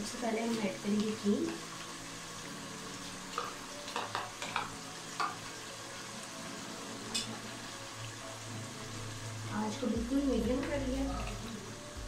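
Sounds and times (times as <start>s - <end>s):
chicken sizzling in pan: 0.0s - 12.0s.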